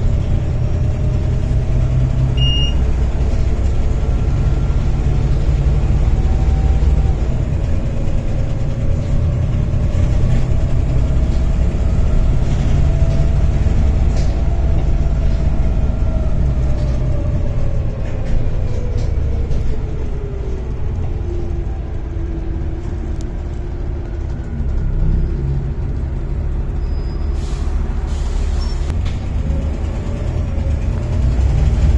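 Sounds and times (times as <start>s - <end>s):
bus diesel engine rumble: 0.0s - 31.9s.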